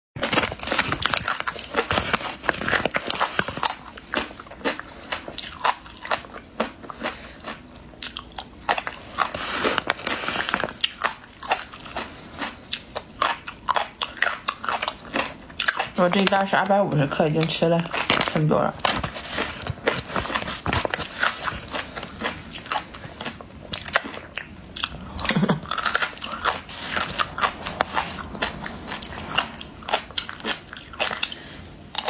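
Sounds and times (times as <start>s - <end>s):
crunchy chewing: 0.2s - 32.0s.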